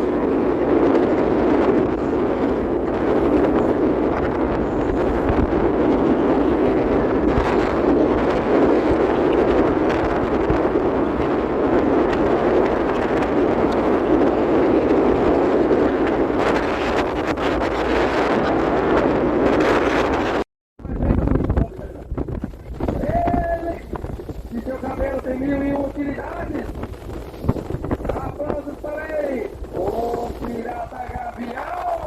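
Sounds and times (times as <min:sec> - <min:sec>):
wind buffeting microphone: 0:00.0 - 0:32.0
boat engine running: 0:00.3 - 0:32.0.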